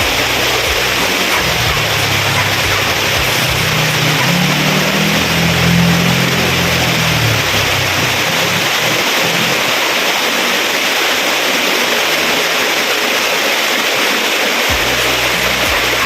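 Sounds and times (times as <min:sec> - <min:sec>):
waterfall pouring over rocks: 0:00.0 - 0:16.0.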